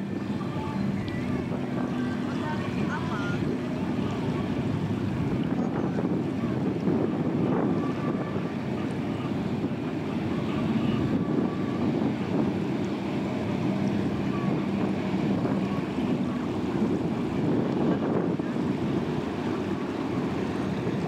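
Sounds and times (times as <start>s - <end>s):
ferry engines droning: 0.0s - 21.0s
water wash: 0.0s - 21.0s
wind buffeting microphone: 0.0s - 21.0s.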